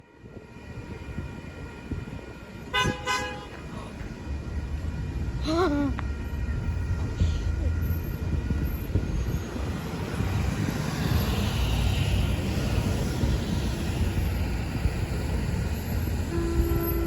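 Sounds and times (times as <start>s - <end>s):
low diesel rumble: 0.6s - 17.0s.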